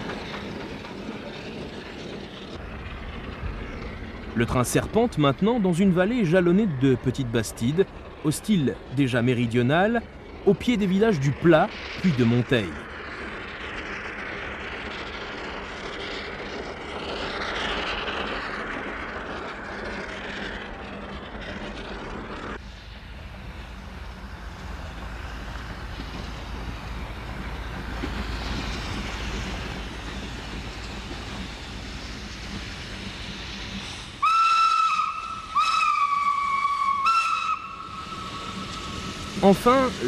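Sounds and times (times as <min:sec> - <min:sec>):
steam locomotive rumble: 0:00.0 - 0:40.0.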